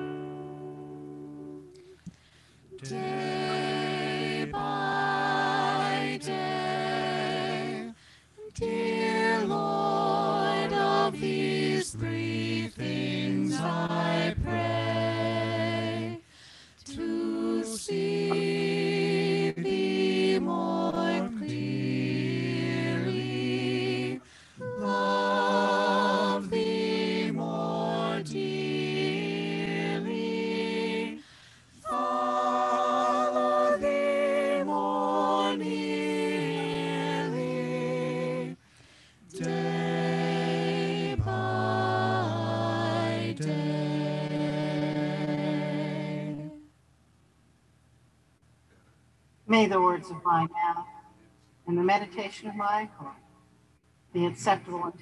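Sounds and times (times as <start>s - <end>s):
vocal quartet singing unaccompanied: 0.0s - 46.7s.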